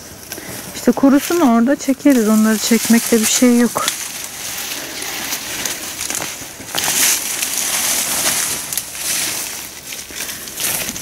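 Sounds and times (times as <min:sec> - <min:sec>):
dry stalks snapping: 0:00.0 - 0:11.0
leaves and stems rustling: 0:00.0 - 0:11.0.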